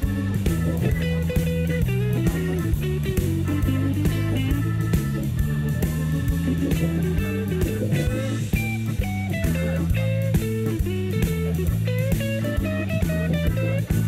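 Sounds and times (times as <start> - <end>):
guitar with bass and drums: 0.0 - 14.0.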